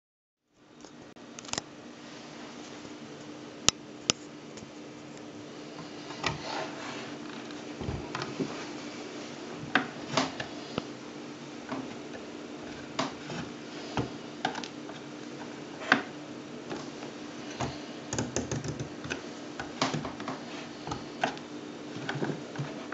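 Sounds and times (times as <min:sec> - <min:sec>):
steady low hum: 0:00.5 - 0:22.9.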